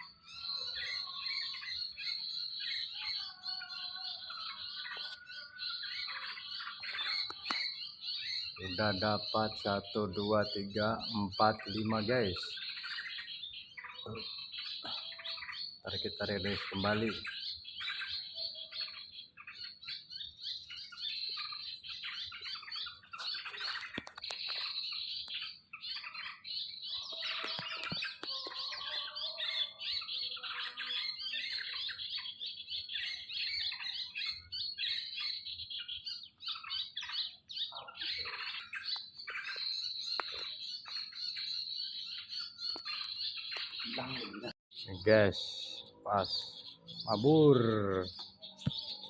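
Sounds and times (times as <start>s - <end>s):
lower bird calls: 0.0s - 49.0s
small birds chirping: 0.0s - 49.0s.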